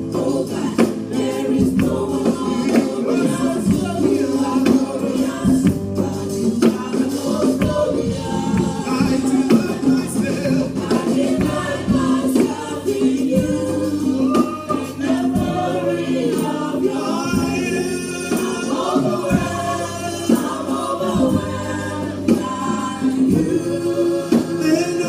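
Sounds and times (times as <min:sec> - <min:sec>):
choir singing: 0:00.0 - 0:25.0
drum hits: 0:00.0 - 0:25.0
live band with bass: 0:00.0 - 0:25.0.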